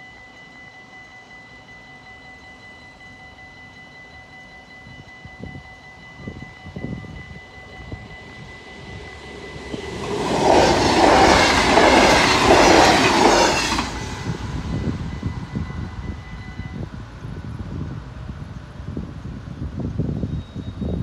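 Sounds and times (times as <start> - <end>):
electronic crossing warning bell: 0.0 - 16.8
train wheel and rail noise: 0.0 - 21.0.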